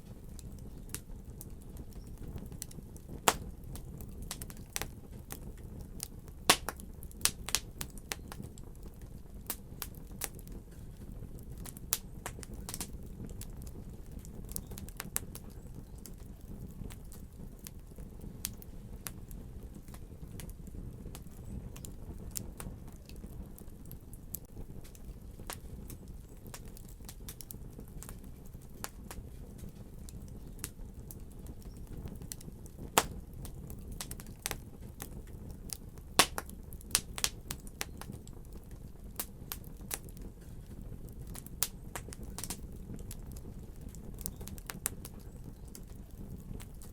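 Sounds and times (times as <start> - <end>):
fire pops and snaps: 0.0 - 46.9
wood fire crackling: 0.0 - 46.9.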